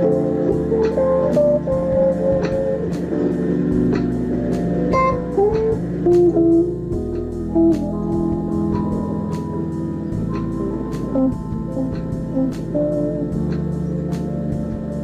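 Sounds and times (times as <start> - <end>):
bass line: 0.0 - 15.0
electric guitar melody: 0.0 - 15.0
keyboard chords: 0.0 - 15.0
light ticking beat: 0.0 - 15.0.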